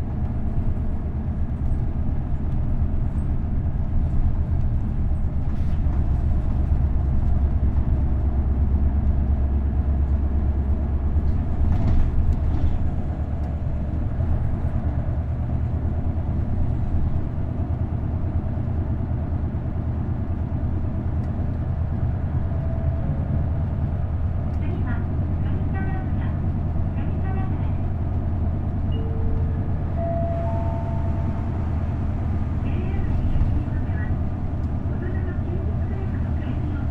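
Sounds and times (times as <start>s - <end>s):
bus diesel engine drone: 0.0s - 36.9s.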